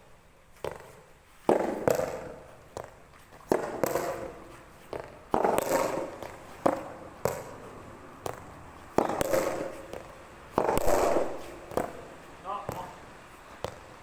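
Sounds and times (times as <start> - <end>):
rackets hitting tennis ball: 0.5 - 14.0
ball bouncing on court: 0.6 - 14.0.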